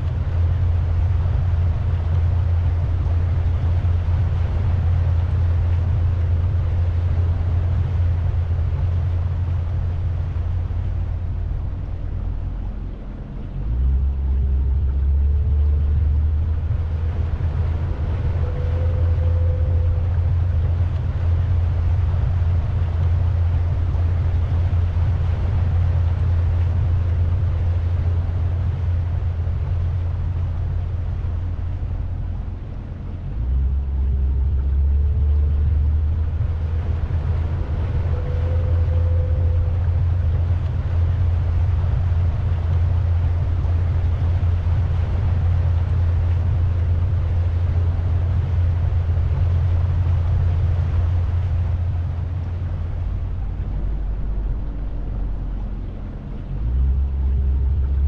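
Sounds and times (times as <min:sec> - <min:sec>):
boat engine rumble: 0:00.0 - 0:58.0
water noise: 0:00.0 - 0:58.0
wind noise: 0:00.0 - 0:58.0.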